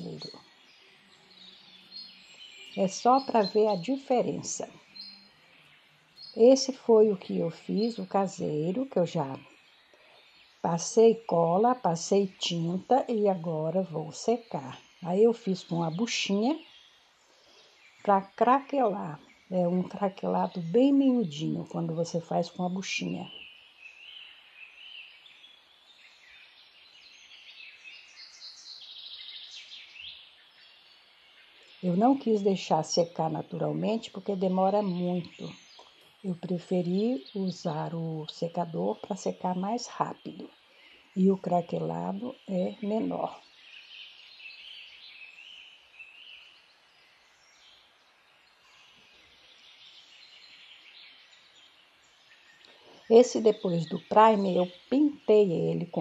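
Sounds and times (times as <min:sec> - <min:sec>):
faint steady hiss: 0:00.0 - 0:56.0
songbirds chirping and singing: 0:00.0 - 0:56.0.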